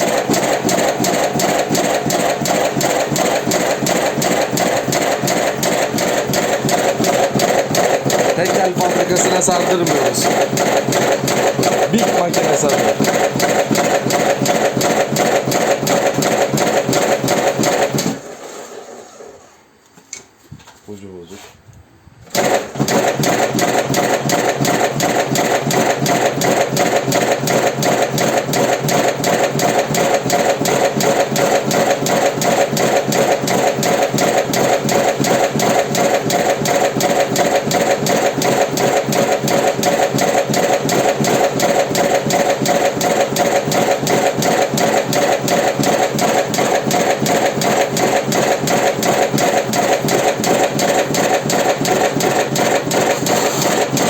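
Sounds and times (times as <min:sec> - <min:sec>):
mechanical clatter: 0:00.0 - 0:19.4, 0:22.3 - 0:54.0
machine motor hum: 0:00.0 - 0:19.8, 0:22.3 - 0:54.0.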